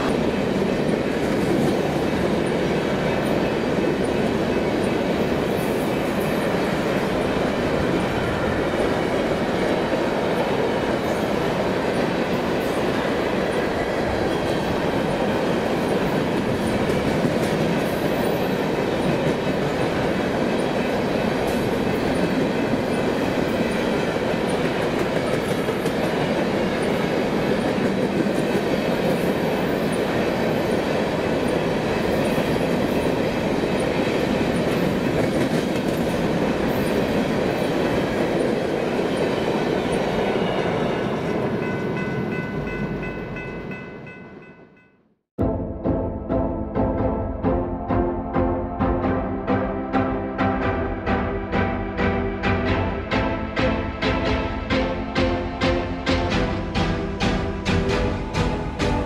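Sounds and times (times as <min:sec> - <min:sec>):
freight train rumbling past: 0:00.0 - 0:44.7, 0:45.4 - 0:59.0.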